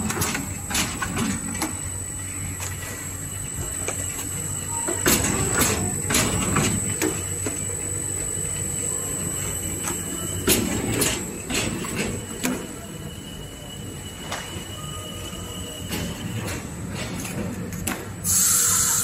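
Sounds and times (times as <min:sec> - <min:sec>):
machine hum with high whine: 0:00.0 - 0:19.0.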